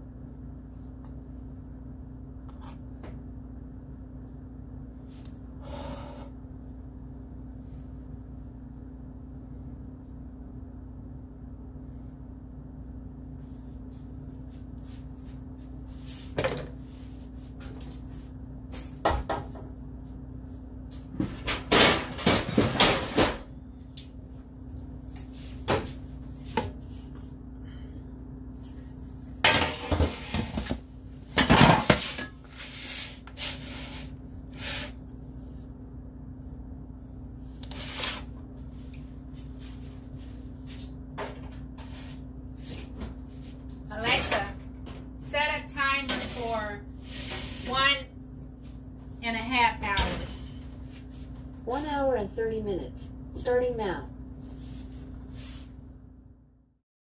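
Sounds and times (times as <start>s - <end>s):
steady low hum: 0.0s - 56.8s.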